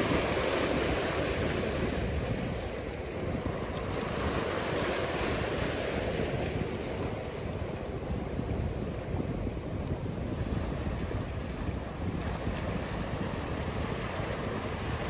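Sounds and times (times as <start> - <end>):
waves breaking: 0.0 - 15.0
wind rumbling on microphone: 0.0 - 15.0.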